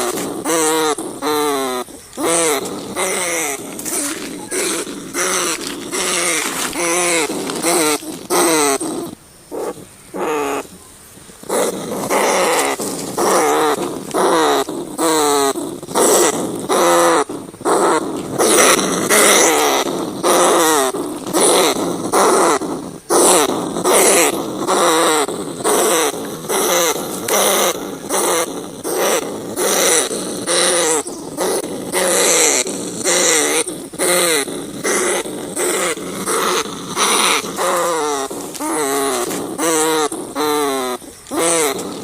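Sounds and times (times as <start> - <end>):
rat squealing: 0.0 - 10.7, 11.4 - 42.0.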